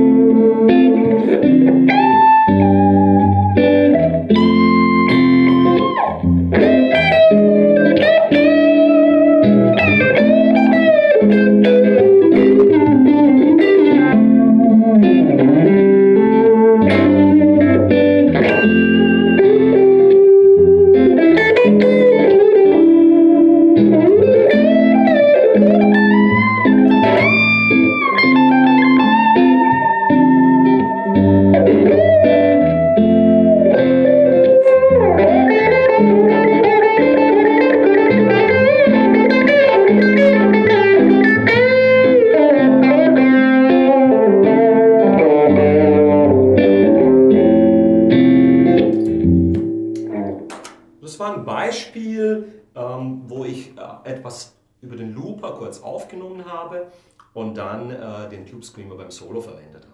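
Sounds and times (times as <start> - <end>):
overdriven electric guitar lead: 0.0 - 50.9.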